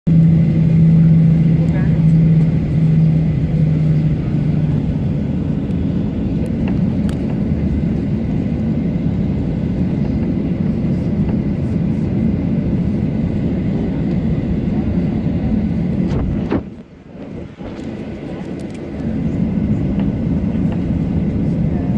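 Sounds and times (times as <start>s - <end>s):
airplane cabin engine rumble: 0.1s - 21.9s.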